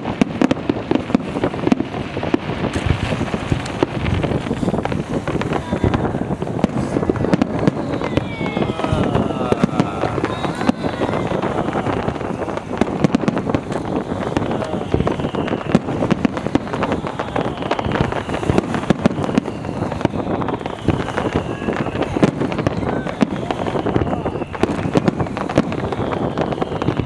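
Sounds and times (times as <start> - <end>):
fireworks crackling and popping: 0.0 - 27.0
fireworks whistles falling in pitch: 0.0 - 27.0
wind buffeting microphone: 0.0 - 27.0.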